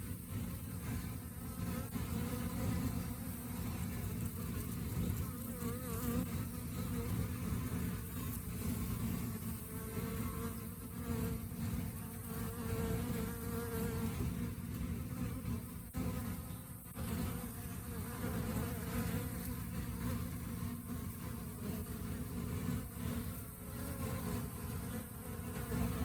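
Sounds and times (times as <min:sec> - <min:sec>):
honey bees buzzing: 0:00.0 - 0:26.0.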